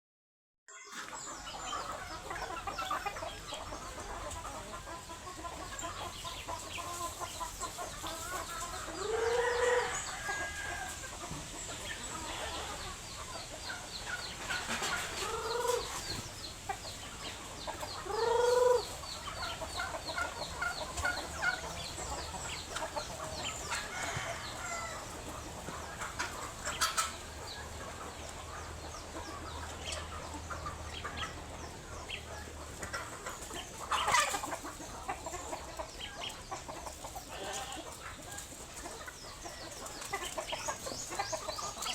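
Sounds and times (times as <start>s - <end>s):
chickens clucking: 0.7s - 41.9s
drawn-out chicken calls: 0.7s - 41.9s.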